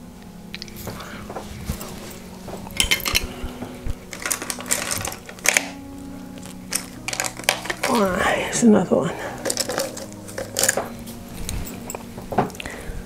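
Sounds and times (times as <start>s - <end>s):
makeup items clinking and rattling: 0.6s - 8.2s, 9.3s - 12.6s.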